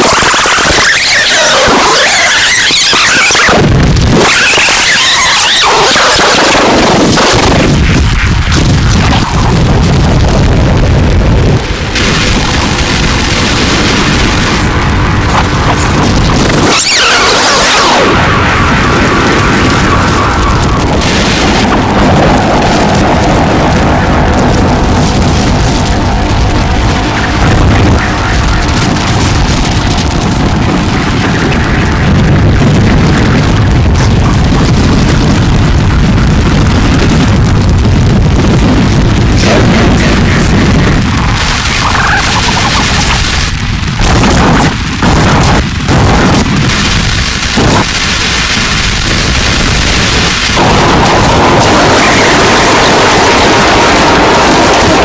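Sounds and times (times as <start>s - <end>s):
distorted turntable noise rumble: 0.0s - 55.0s.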